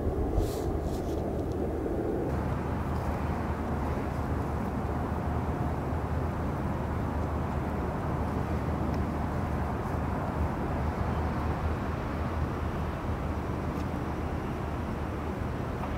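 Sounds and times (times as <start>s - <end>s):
jet engines rumbling: 0.0s - 15.9s.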